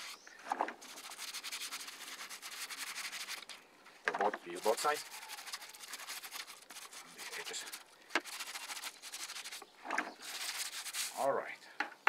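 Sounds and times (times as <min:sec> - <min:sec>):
scrub brush scrubbing wet wood: 0:00.0 - 0:03.6, 0:04.5 - 0:11.2.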